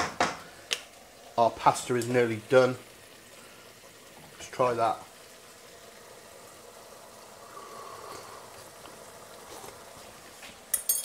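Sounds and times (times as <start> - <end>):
sauce bubbling in a pan: 0.0 - 10.8.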